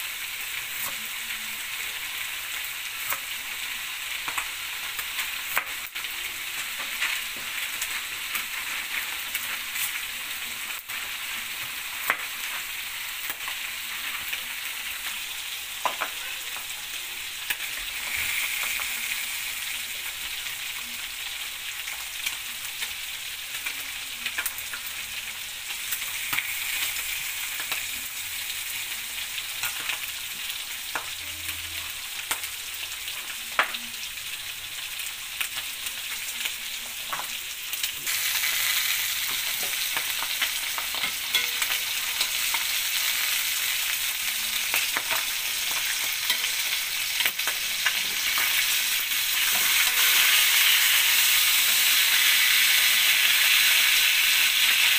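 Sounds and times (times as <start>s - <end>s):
meat sizzling in oil: 0.0s - 54.9s
sharp crackles of frying: 0.0s - 54.9s.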